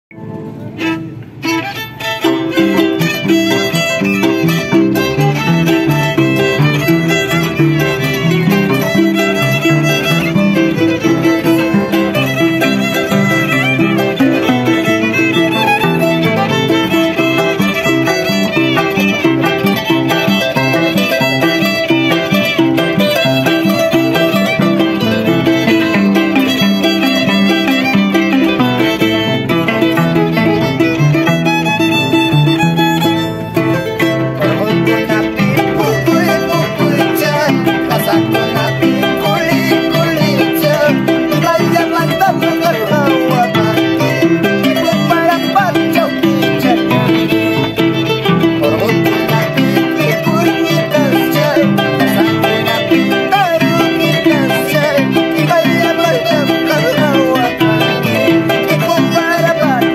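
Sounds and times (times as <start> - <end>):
bowed violin melody: 0.1 - 59.9
harp plucked bass notes: 2.2 - 59.9.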